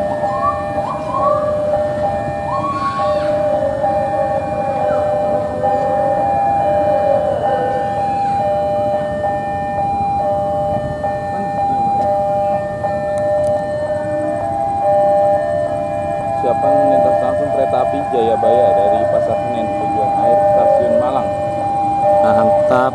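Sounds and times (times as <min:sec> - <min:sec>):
train rumbling past: 0:00.0 - 0:22.9
two-pitch crossing alarm: 0:00.0 - 0:22.9.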